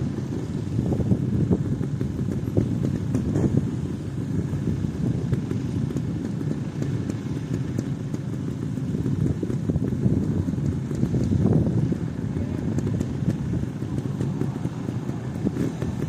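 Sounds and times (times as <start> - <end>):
motorcycles idling: 0.0 - 16.0.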